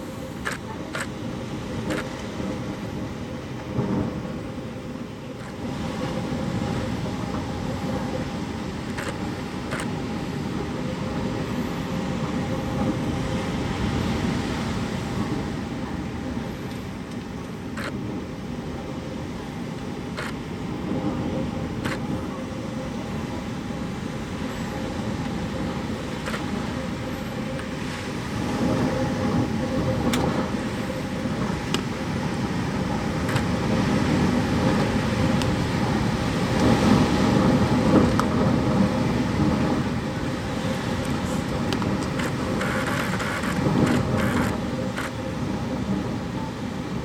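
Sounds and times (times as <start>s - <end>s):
rain: 0.0s - 47.0s
road noise: 0.0s - 47.0s.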